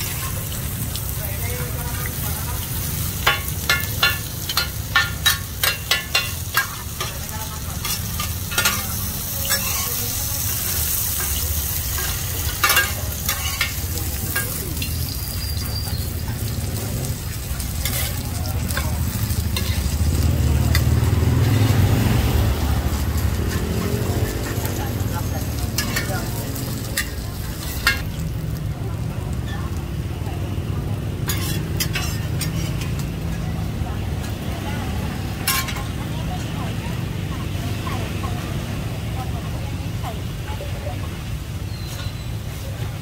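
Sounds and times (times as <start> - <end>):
batter sizzling in hot oil: 0.0 - 43.0.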